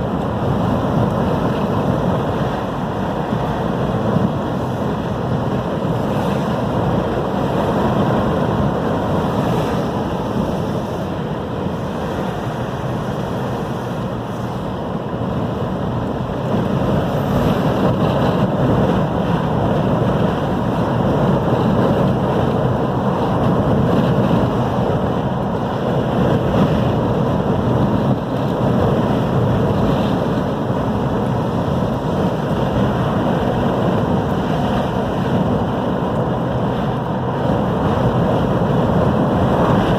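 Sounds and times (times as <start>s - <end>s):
heavy ocean surf: 0.0s - 39.9s
storm wind on microphone: 0.0s - 39.9s.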